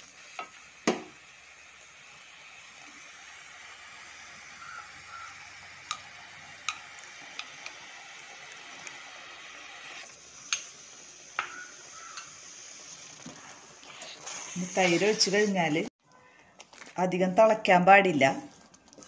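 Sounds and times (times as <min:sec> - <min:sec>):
curry paste sizzling in pan: 0:00.0 - 0:15.9.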